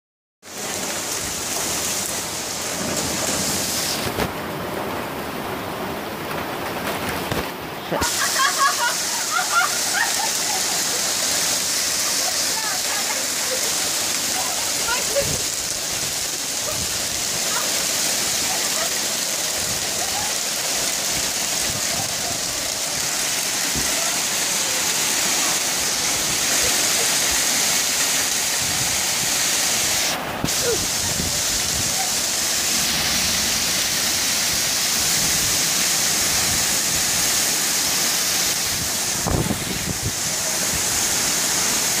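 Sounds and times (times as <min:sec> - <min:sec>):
heavy rain pouring: 0:00.4 - 0:42.0
high winds: 0:00.5 - 0:42.0.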